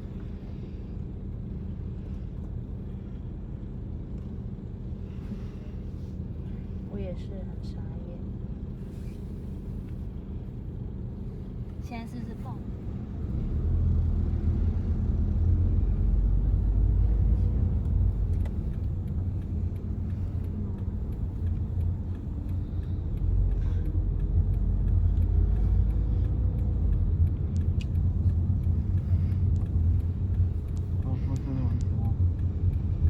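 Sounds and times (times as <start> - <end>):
car engine and tyre hum: 0.0 - 33.0.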